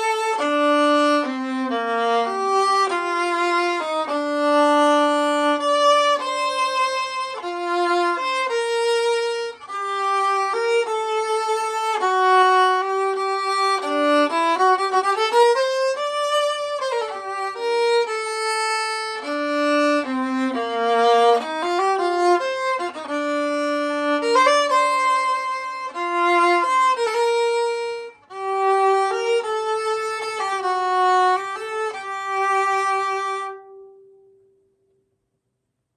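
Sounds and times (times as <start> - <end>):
solo viola melody: 0.0 - 34.6.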